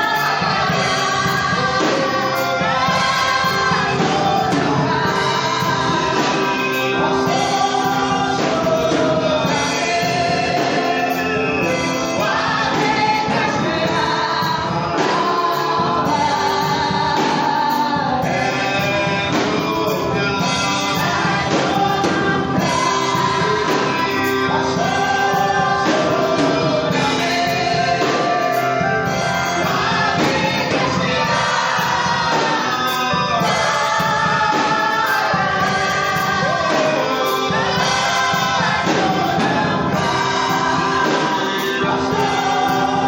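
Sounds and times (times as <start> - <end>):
choir and congregation singing: 0.0 - 43.0
instrumental backing: 0.0 - 43.0.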